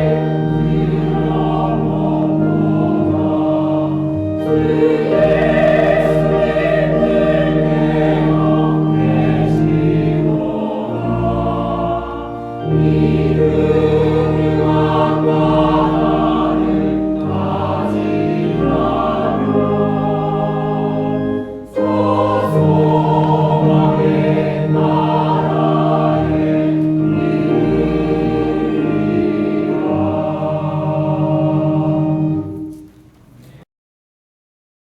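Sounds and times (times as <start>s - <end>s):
choir singing a hymn: 0.0s - 32.9s
organ: 0.0s - 33.2s
piano: 0.0s - 33.6s.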